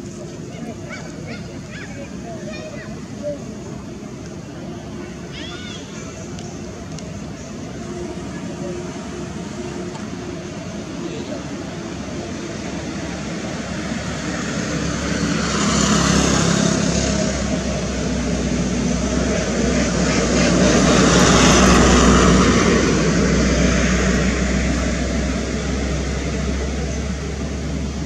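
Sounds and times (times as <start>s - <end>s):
engine low hum: 0.0s - 28.0s.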